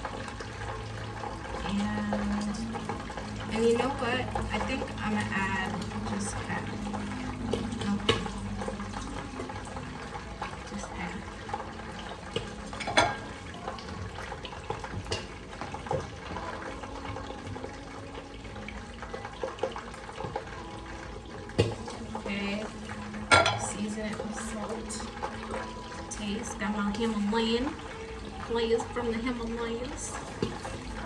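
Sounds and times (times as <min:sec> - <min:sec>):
sauce sizzling in a pot: 0:00.0 - 0:31.0.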